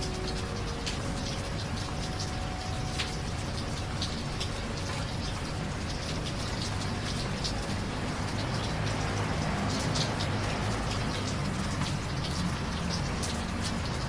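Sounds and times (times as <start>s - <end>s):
raindrops striking close by: 0.0s - 14.0s
steady rain: 0.0s - 14.0s.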